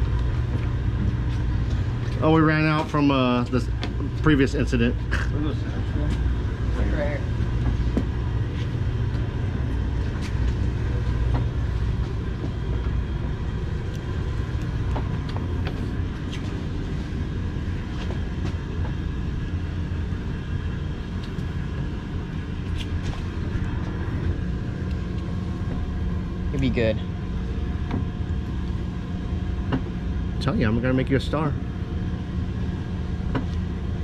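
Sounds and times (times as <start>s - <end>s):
boat engine drone: 0.0s - 34.0s.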